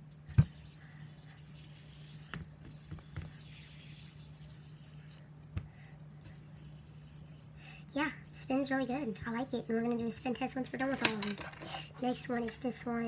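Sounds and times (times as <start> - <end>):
fidget spinner clicking: 0.3 - 5.2, 6.3 - 7.5, 8.5 - 12.9.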